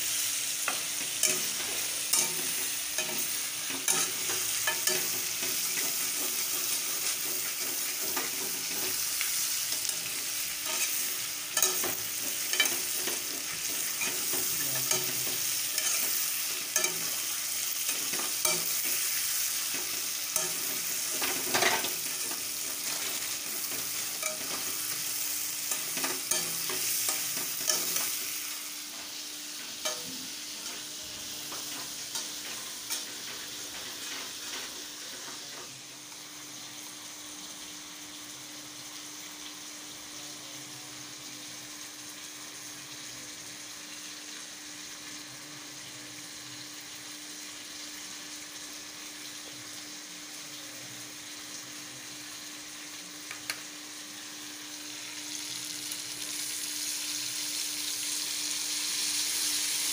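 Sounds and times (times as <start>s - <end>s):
chicken sizzling in hot oil: 0.0s - 59.9s.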